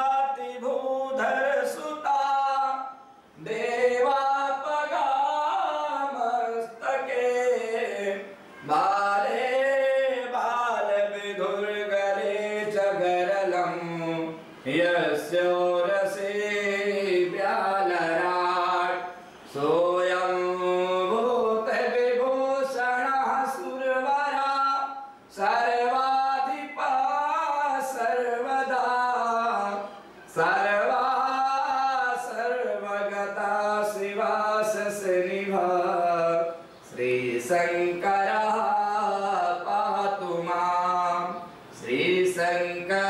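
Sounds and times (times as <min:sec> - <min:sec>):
man chanting verses: 0:00.0 - 0:43.0.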